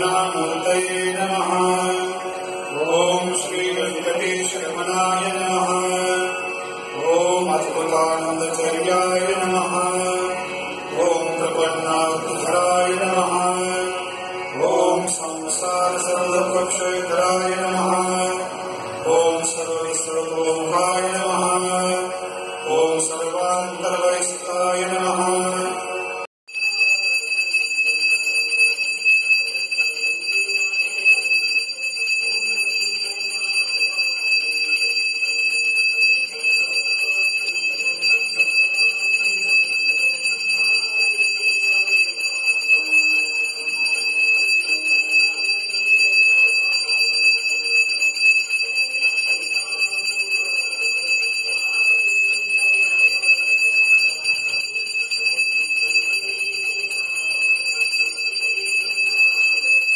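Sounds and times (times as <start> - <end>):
bell ringing: 0.0 - 59.9.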